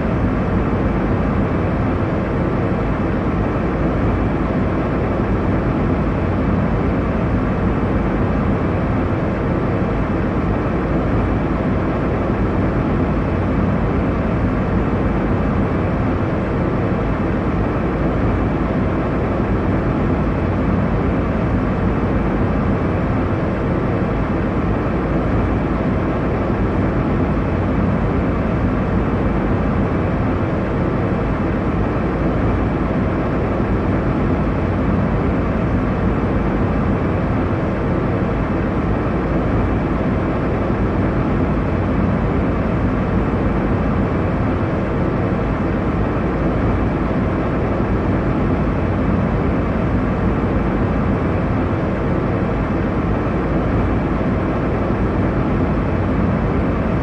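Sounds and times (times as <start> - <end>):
airliner cabin engine rush: 0.0 - 57.0
faint steady hums: 0.0 - 57.0.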